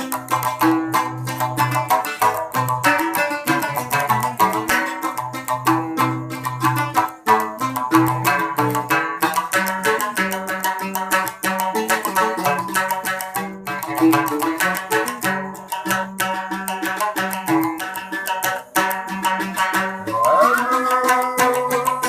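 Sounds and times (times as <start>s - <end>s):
plucked lute playing: 0.0s - 22.0s.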